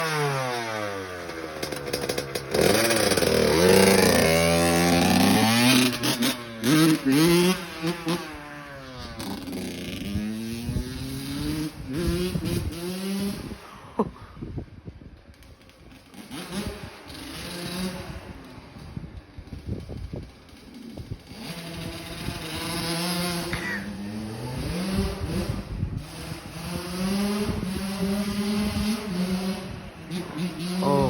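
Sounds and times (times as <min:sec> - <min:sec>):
motocross bike engine revving: 0:00.0 - 0:14.6, 0:15.3 - 0:31.0.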